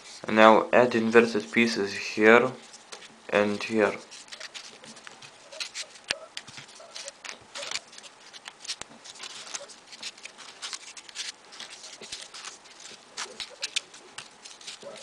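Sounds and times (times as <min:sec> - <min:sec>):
paper rustling and clicking: 0:02.6 - 0:15.0.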